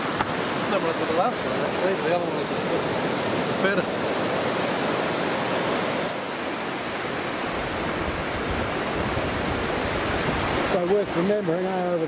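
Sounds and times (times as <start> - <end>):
surf washing onto sand: 0.0 - 12.0.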